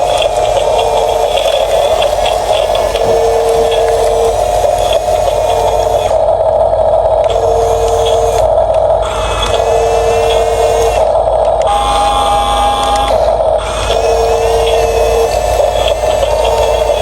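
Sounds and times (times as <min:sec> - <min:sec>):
higher whine: 0:00.0 - 0:17.0
toy vehicle motors whining: 0:00.0 - 0:17.0.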